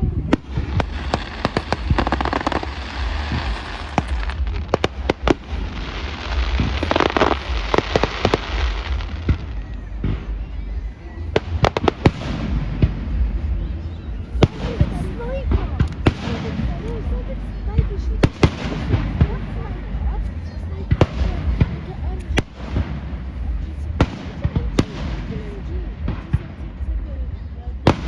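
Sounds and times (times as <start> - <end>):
fireworks bangs and pops: 0.0 - 28.0
fireworks crackling: 0.0 - 28.0.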